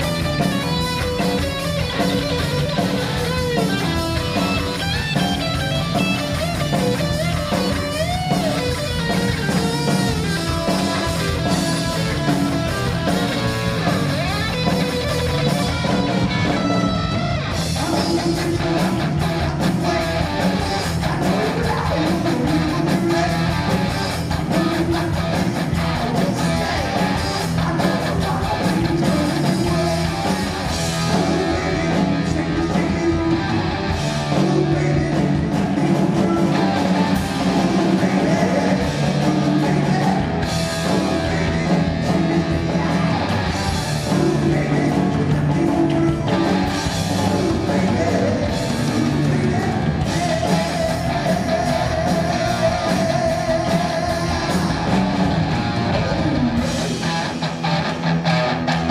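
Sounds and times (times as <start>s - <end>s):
electric guitar: 0.0s - 58.9s
heavy metal band playing: 0.0s - 58.9s.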